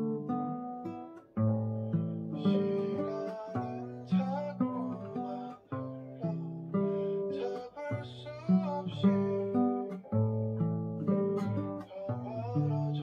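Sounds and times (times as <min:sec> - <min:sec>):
classical guitar fingerstyle melody: 0:00.0 - 0:13.0.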